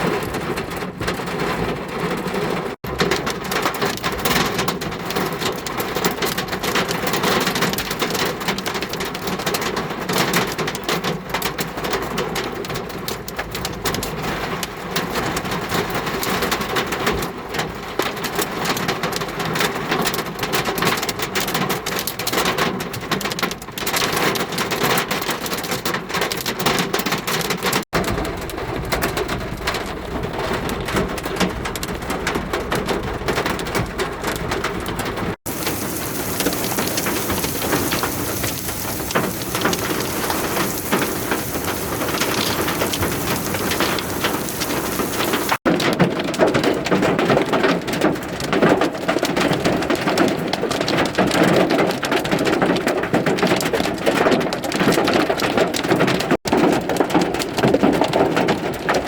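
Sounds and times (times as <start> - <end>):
rain and hail on car body: 0.0 - 59.0.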